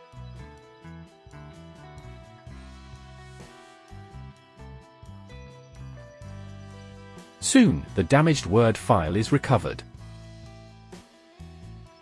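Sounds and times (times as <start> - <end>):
soft guitar music: 0.0 - 12.0.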